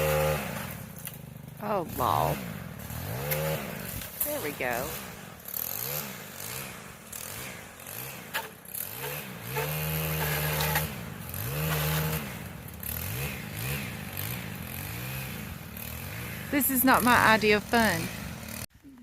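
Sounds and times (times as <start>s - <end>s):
chainsaw engine revving: 0.0s - 18.7s.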